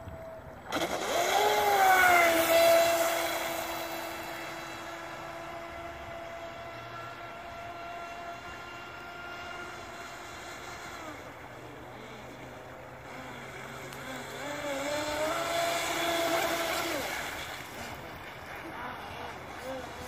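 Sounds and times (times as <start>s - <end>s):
electric motor whining: 0.2s - 18.0s.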